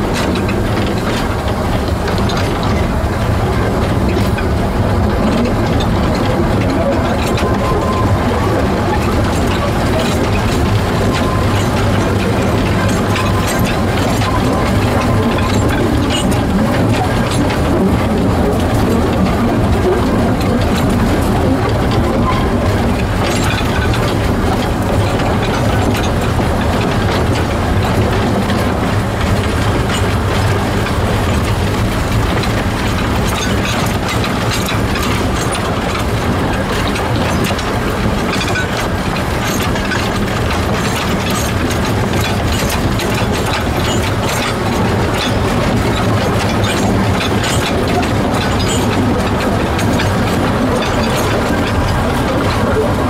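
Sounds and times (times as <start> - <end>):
steam locomotive wheels clattering: 0.0 - 53.0.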